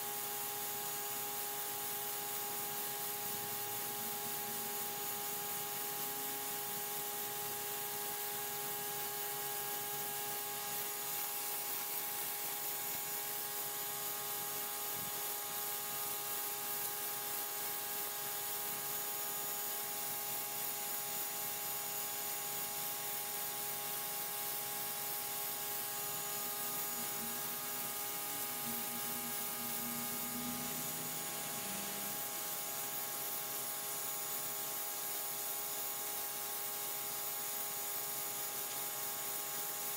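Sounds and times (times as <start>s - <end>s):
water jet hissing on concrete: 0.0s - 39.9s.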